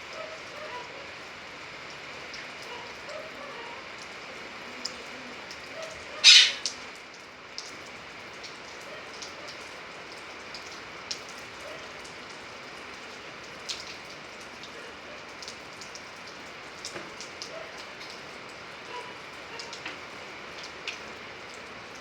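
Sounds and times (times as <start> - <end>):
steady rain falling: 0.0 - 22.0
raindrops ticking: 3.9 - 22.0.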